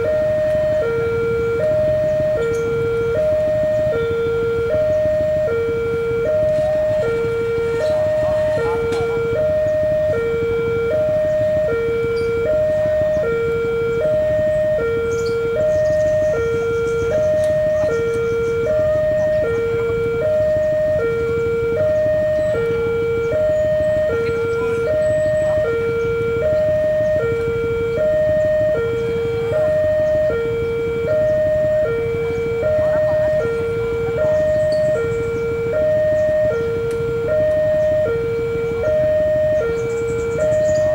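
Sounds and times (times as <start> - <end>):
two-tone level crossing alarm: 0.0 - 40.9.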